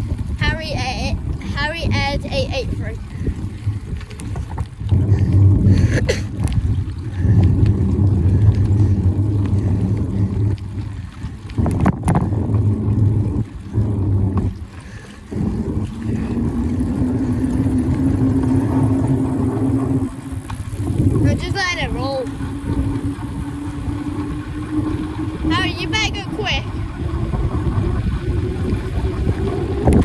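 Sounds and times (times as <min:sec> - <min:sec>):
bicycle tyre noise: 0:00.0 - 0:30.0
wind buffeting microphone: 0:00.0 - 0:30.0.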